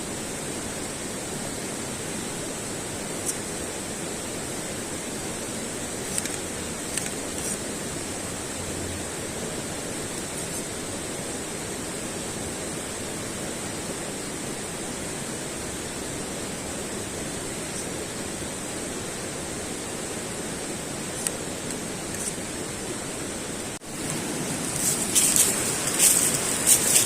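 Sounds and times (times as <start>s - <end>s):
steady outdoor rushing noise: 0.0s - 27.0s.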